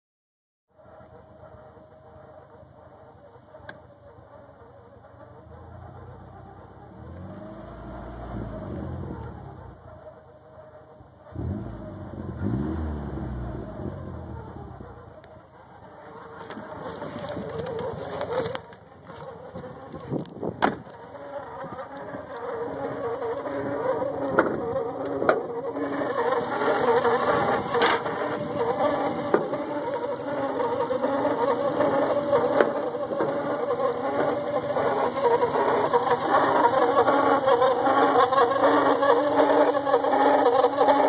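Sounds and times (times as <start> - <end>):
warbling whine: 0.8 - 41.0
car engine running: 1.1 - 41.0.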